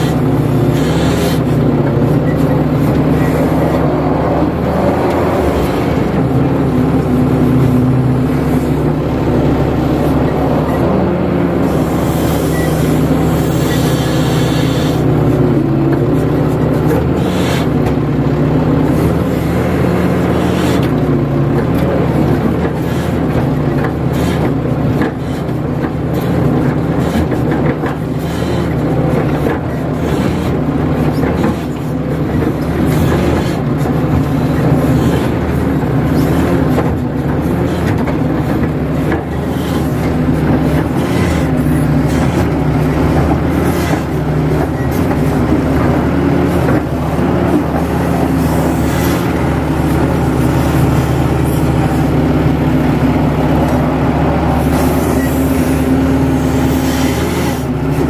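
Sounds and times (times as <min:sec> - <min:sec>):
excavator diesel engine and hydraulics: 0:00.0 - 0:58.0.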